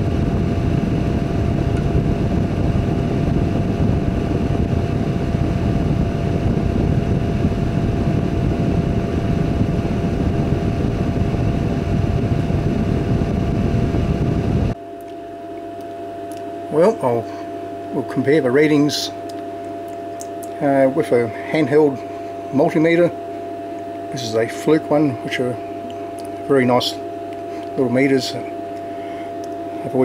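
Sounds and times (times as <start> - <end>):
constant hum tone: 0.0 - 30.0
low mechanical rumble: 0.0 - 30.0.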